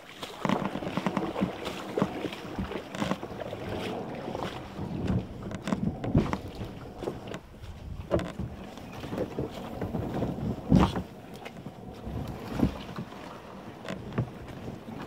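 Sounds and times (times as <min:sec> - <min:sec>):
kayak hull scraping over ground: 0:00.0 - 0:15.0.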